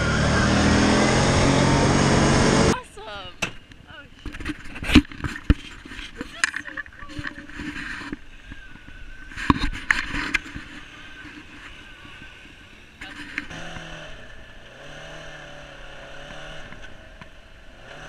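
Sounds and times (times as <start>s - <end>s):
off-road engines running: 0.0s - 18.0s.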